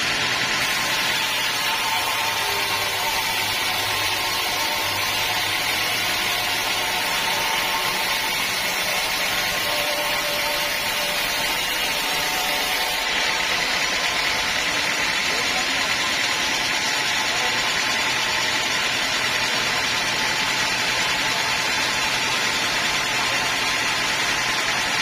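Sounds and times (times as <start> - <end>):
sawmill saw and engine running: 0.0 - 25.0.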